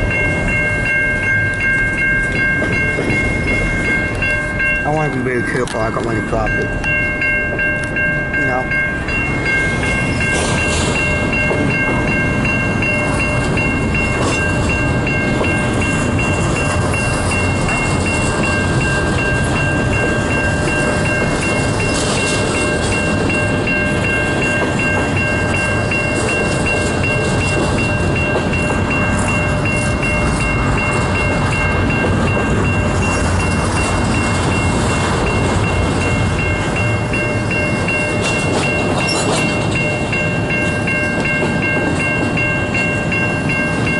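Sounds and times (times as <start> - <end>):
crossing warning bell ringing: 0.0 - 43.9
train wheels rolling on rails: 0.0 - 43.9.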